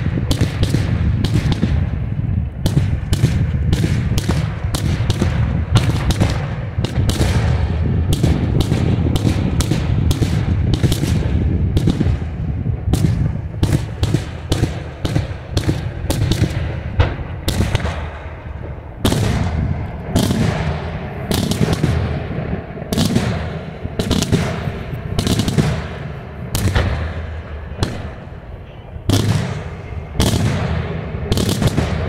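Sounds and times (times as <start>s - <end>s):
fireworks bangs: 0.0s - 32.0s
low rumble of echoing reports: 0.0s - 32.0s.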